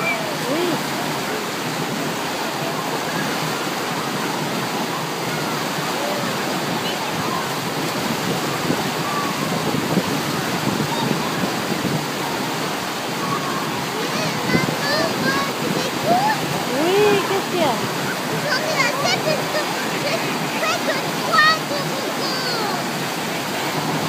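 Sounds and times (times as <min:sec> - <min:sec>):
swimmers shouting: 0:00.0 - 0:24.0
waves breaking in a pool: 0:00.0 - 0:24.0.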